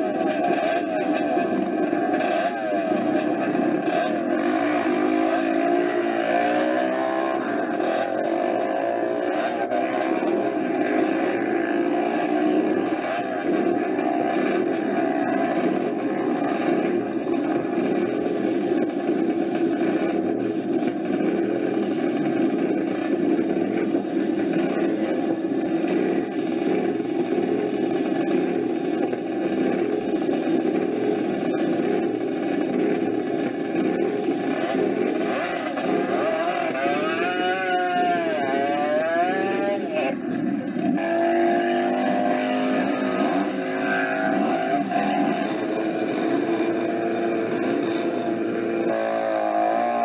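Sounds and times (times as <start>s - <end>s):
motorcycle engine revving: 0.0s - 50.0s
motorcycle engines running: 0.0s - 50.0s.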